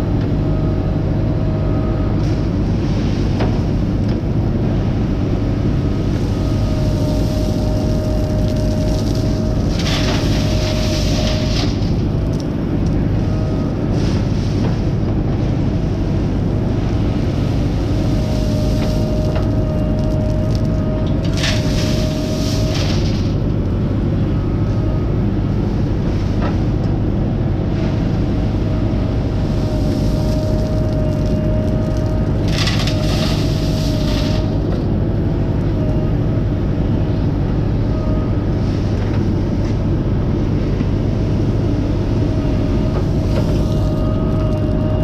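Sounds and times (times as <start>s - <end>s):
hydraulic whine: 0.0s - 15.8s, 16.4s - 25.9s, 28.2s - 40.0s, 40.6s - 45.0s
diesel engine under load: 0.0s - 45.0s.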